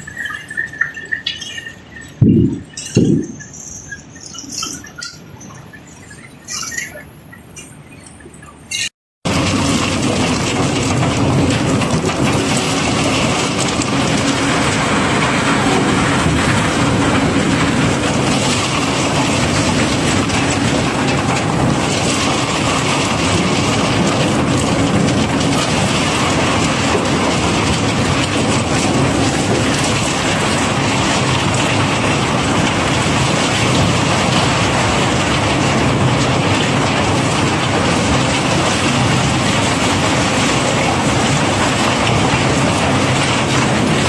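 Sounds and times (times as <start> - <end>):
cobblestones pouring and rattling: 0.0 - 6.8, 9.3 - 44.0.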